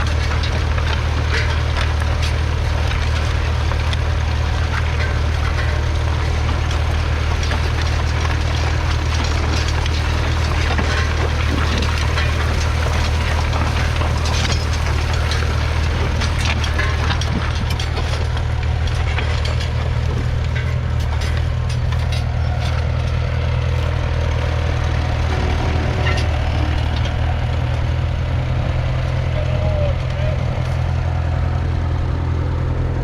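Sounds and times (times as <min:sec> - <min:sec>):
light crackles and clicks: 0:00.0 - 0:27.9
diesel engine running: 0:00.0 - 0:33.0.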